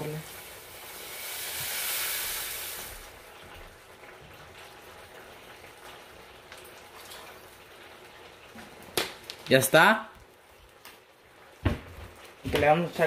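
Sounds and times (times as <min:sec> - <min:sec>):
water sizzling in hot pan: 0:00.0 - 0:13.0.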